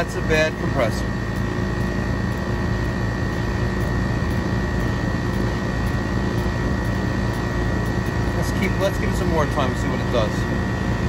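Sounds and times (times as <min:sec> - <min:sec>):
air conditioner compressor humming: 0:00.0 - 0:11.0.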